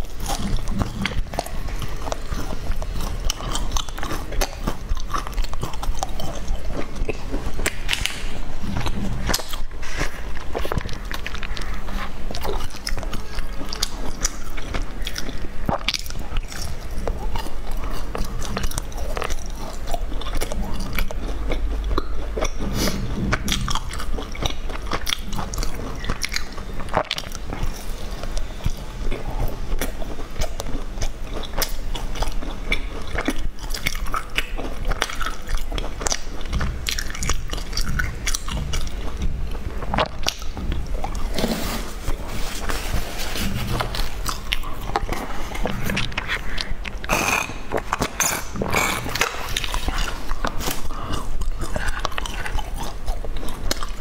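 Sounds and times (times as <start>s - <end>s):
close biting and chewing cake: 0.0s - 54.0s.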